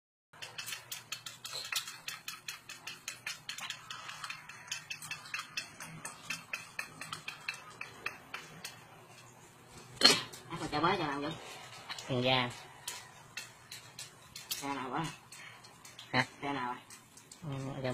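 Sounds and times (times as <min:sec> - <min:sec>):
utensils clinking on metal bowl: 0:00.4 - 0:17.9.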